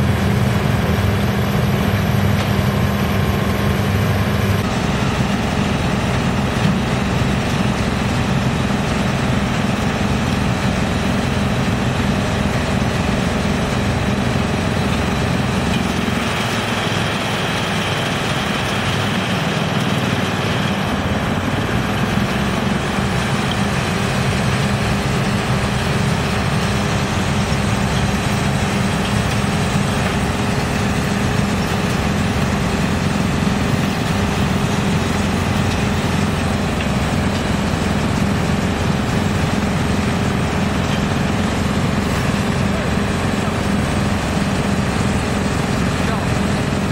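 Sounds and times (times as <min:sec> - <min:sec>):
excavator diesel engine: 0:00.0 - 0:46.9
wood chipper running: 0:00.0 - 0:46.9.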